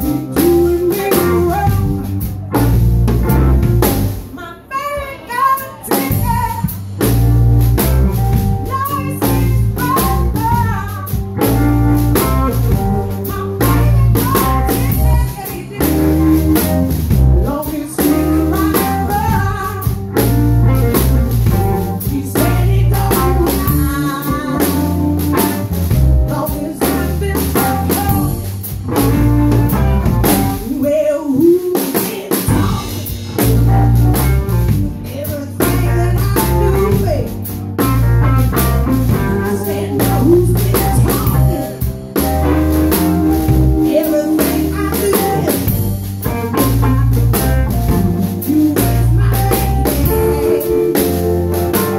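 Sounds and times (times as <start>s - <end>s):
woman singing lead: 0.0s - 2.7s, 4.3s - 7.8s, 8.6s - 42.2s, 43.0s - 51.9s
blues band playing: 0.0s - 51.9s.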